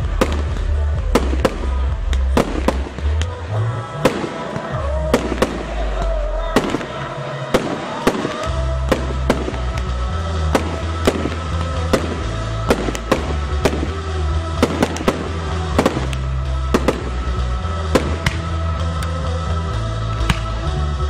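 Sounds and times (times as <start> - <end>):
fireworks cracking: 0.0 - 21.0
music with heavy bass: 0.0 - 21.0.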